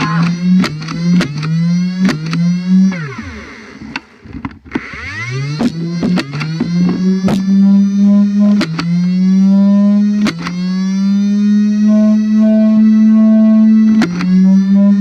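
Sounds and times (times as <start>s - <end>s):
toy blaster motor whine: 0.0s - 15.0s.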